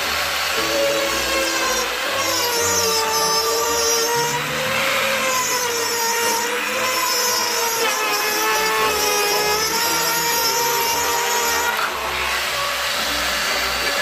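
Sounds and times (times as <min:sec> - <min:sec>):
circular saw cutting wood: 0:00.0 - 0:14.0.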